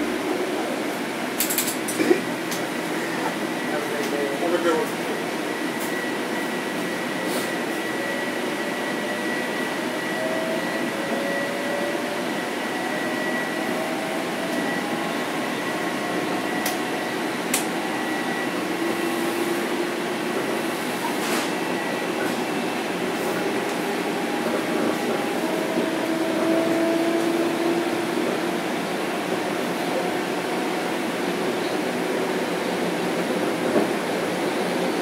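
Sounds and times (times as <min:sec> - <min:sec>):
train rolling noise: 0:00.0 - 0:35.0.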